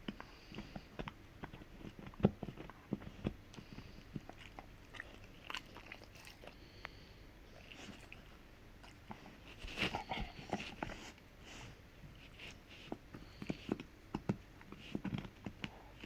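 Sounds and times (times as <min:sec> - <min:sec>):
dog gnawing hoof chew: 0:00.0 - 0:16.0.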